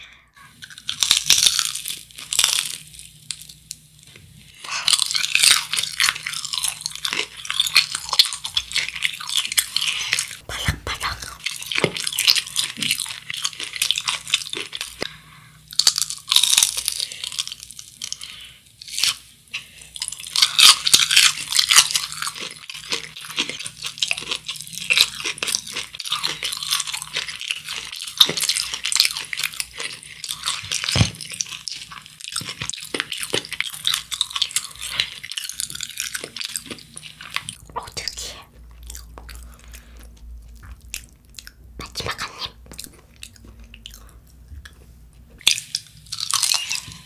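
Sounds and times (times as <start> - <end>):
crunching and chewing cheese stick: 0.5 - 3.8, 4.5 - 10.4, 11.1 - 37.6, 38.6 - 47.0.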